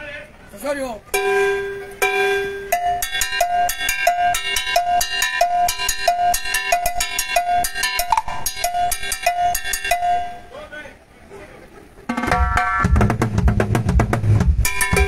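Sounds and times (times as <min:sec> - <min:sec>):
timbales played with sticks: 0:01.1 - 0:10.6, 0:12.1 - 0:15.0.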